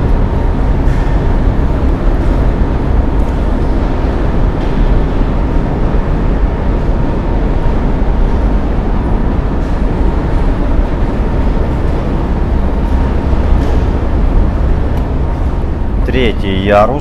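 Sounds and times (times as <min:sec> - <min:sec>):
loud low rumbling: 0:00.0 - 0:17.0.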